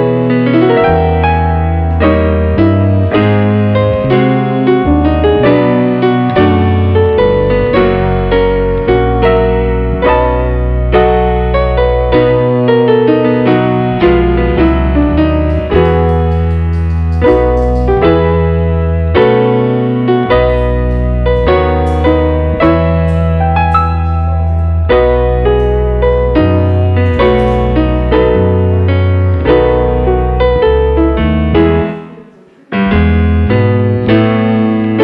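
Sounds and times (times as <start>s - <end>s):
piano chords over bass notes: 0.0s - 35.0s.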